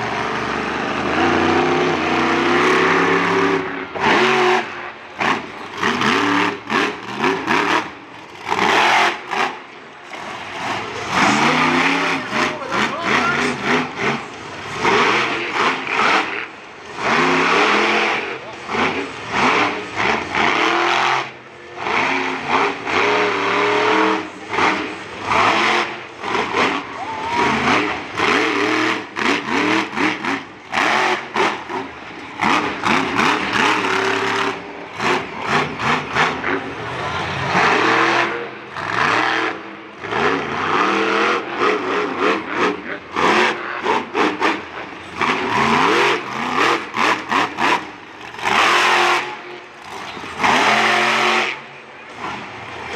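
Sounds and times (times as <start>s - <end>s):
truck engine revving: 0.0s - 52.9s.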